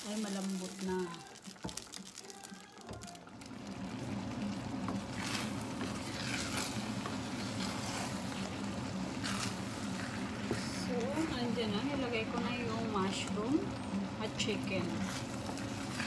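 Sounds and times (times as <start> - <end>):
wooden spoon stirring in a pot: 0.0 - 16.0.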